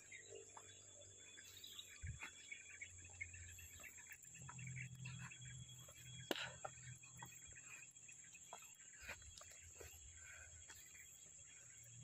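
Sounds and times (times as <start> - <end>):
insect and bird chirps: 0.0 - 12.0.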